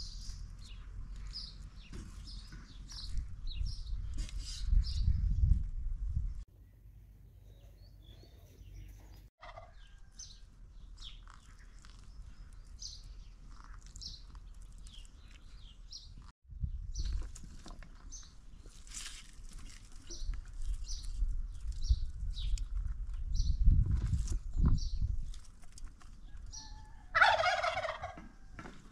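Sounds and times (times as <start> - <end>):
small birds chirping: 0.0 - 5.6, 6.2 - 27.1.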